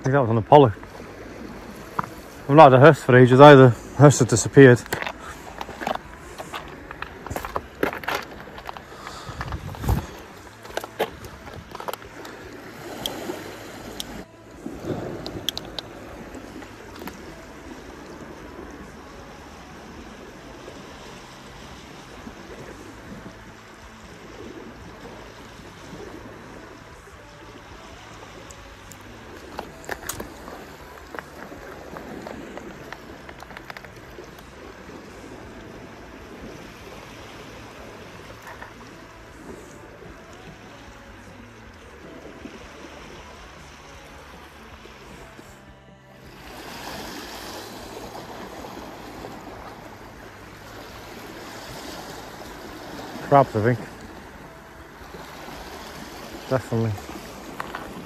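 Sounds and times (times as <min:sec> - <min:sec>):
waves lapping against rocks: 0:00.0 - 0:58.0.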